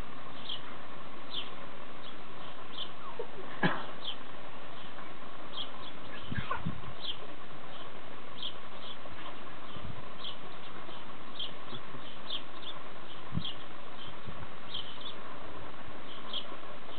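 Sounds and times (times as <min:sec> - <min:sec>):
small birds chirping: 0:00.0 - 0:16.9
steady hiss: 0:00.0 - 0:16.9.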